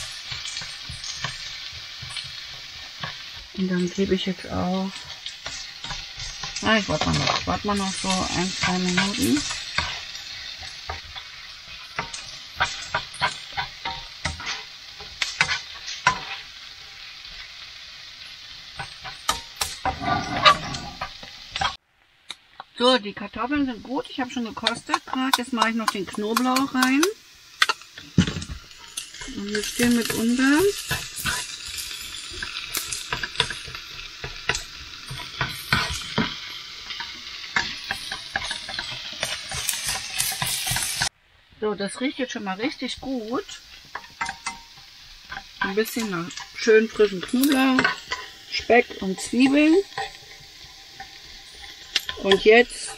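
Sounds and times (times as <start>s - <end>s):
spatula scraping pan: 0.0s - 21.8s, 23.4s - 41.1s, 42.8s - 52.9s
potatoes sizzling in a pan: 0.0s - 52.9s.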